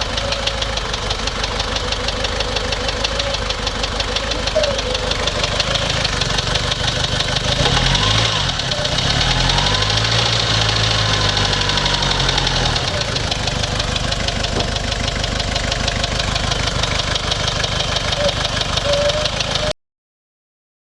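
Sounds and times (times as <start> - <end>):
diesel engine idling roughly: 0.0 - 19.8.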